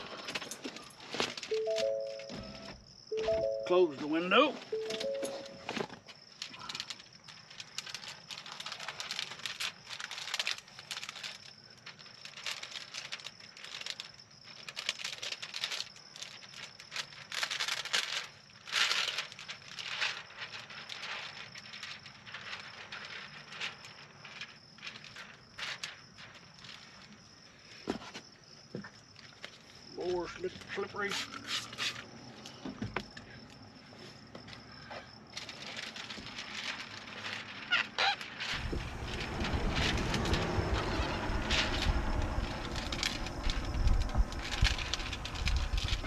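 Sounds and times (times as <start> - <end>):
plastic film crinkling: 0.0 - 2.2, 3.5 - 27.7, 29.1 - 32.0, 35.2 - 46.0.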